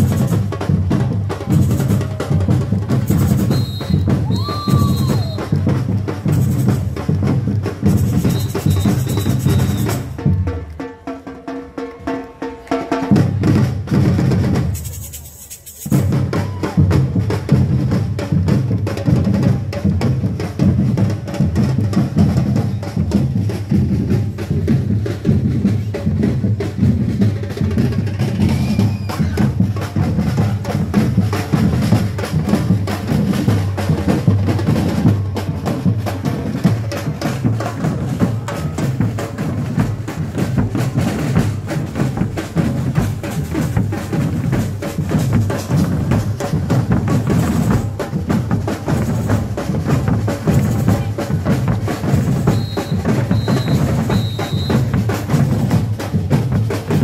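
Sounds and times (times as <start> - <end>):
bass drums playing fast rhythm: 0.0 - 10.8, 11.9 - 57.0.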